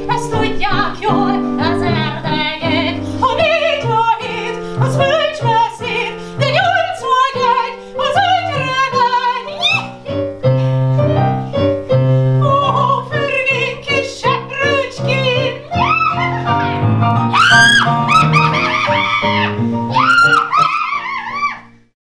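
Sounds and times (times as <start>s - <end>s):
woman singing operatically: 0.0s - 10.4s, 12.4s - 21.3s
piano: 0.0s - 22.0s.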